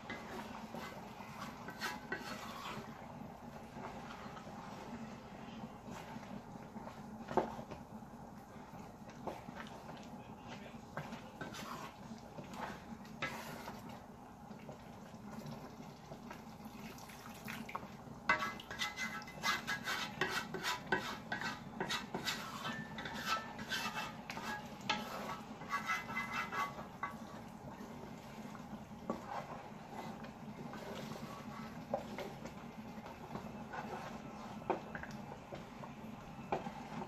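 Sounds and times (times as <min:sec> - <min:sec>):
wooden spoon scraping a pot: 0:00.0 - 0:14.0, 0:18.3 - 0:37.0.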